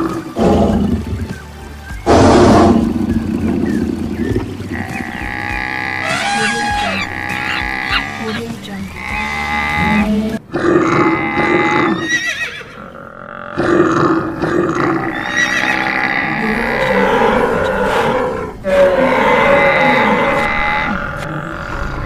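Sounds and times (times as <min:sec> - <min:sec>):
animal calls: 0:02.1 - 0:22.0.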